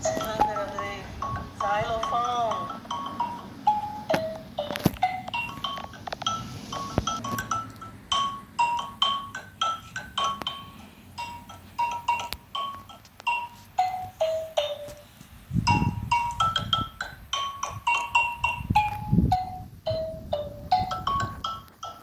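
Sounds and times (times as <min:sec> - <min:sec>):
xylophone melody: 0:00.0 - 0:22.0.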